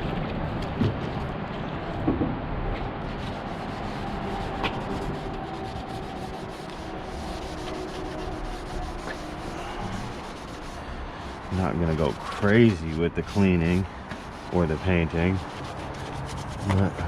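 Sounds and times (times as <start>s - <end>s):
scrubbing on metal: 3.0s - 17.0s.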